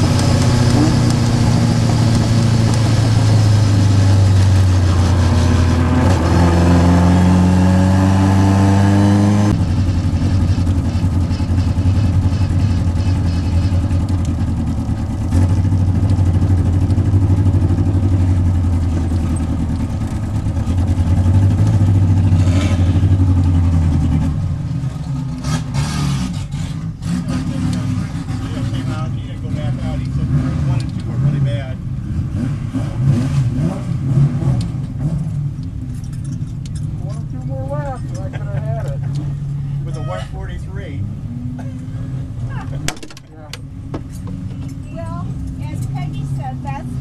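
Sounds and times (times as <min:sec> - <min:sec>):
race car engine pulling: 0:00.0 - 0:47.0.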